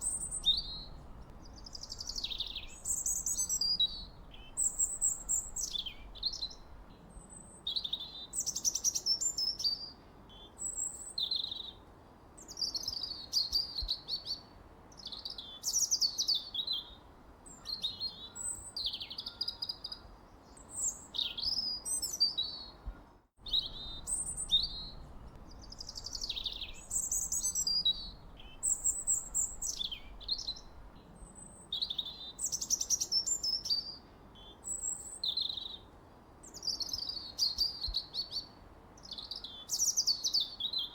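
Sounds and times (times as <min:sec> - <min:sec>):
bird chirping: 0:00.0 - 0:11.8, 0:12.4 - 0:40.9
faint steady hiss: 0:00.0 - 0:40.9.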